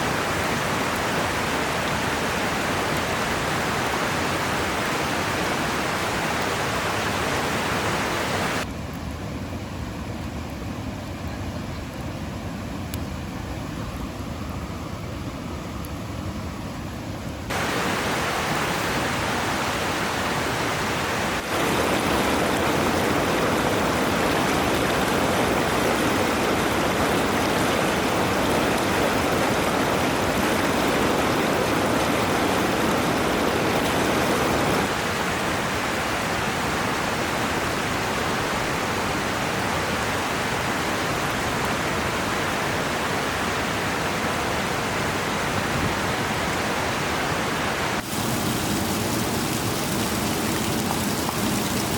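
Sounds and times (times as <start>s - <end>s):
river flowing: 0.0s - 8.7s, 17.5s - 51.9s.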